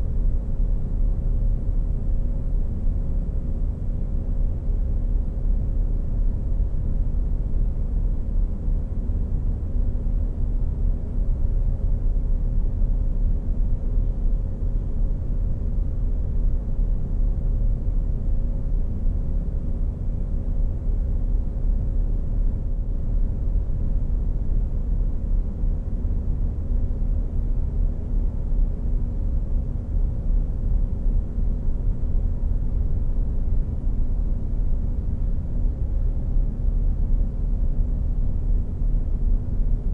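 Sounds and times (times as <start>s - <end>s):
faint constant hum: 0.0s - 39.9s.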